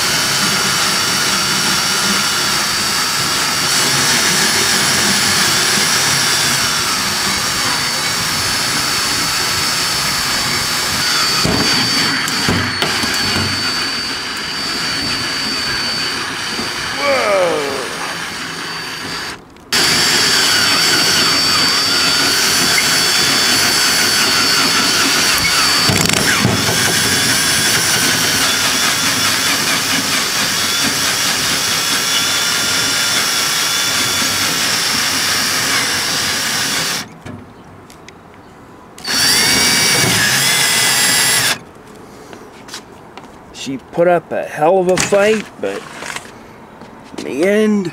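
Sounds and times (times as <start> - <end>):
power drill boring into metal: 0.0 - 37.1, 39.0 - 41.6.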